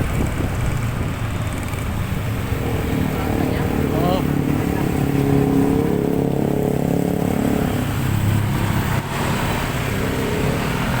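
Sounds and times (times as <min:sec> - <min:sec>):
vehicle engines in traffic: 0:00.0 - 0:11.0.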